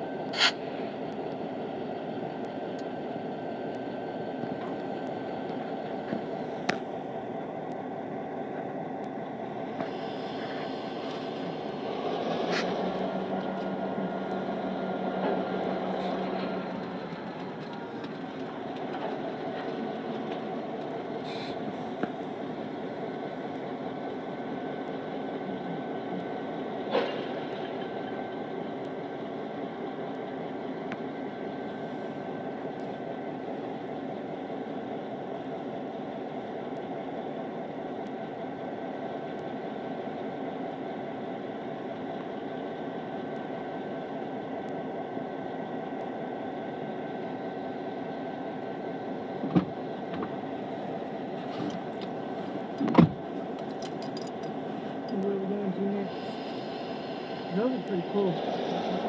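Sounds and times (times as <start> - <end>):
locomotives idling hum: 0.0 - 59.0.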